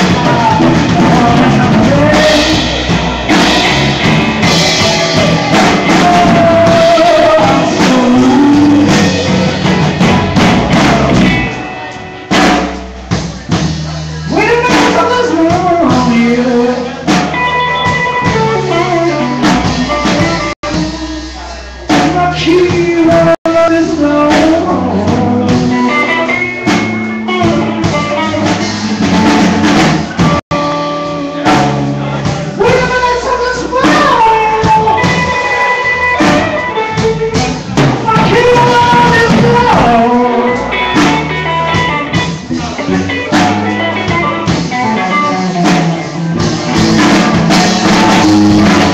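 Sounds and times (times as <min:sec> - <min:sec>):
drum kit: 0:00.0 - 0:48.9
live band with amplified guitars: 0:00.0 - 0:48.9.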